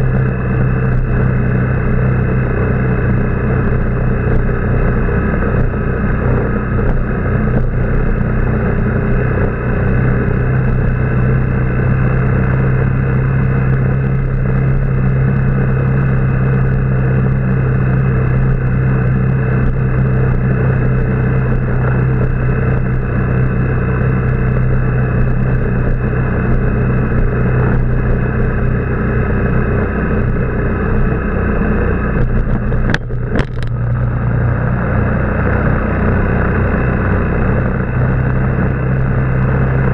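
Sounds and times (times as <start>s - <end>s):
motorbike engine running: 0.0s - 39.9s
road and wind noise: 0.0s - 39.9s.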